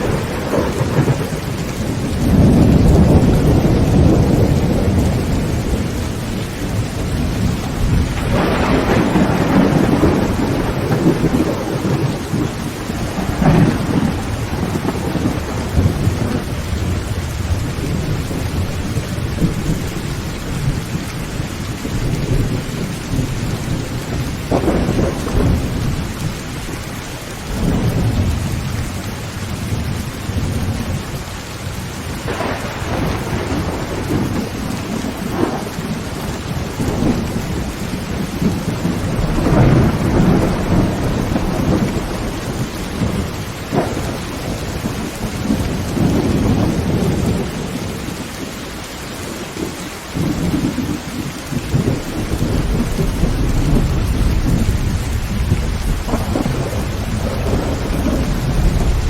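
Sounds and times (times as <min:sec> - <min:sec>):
heavy rain on a tin roof: 0:00.0 - 0:59.0
thunder rumbling: 0:00.0 - 0:59.0.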